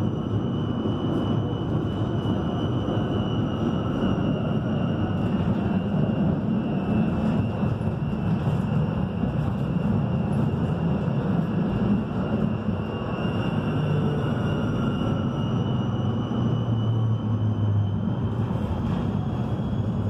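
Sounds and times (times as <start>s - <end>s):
tram wheels rumbling: 0.0s - 20.0s.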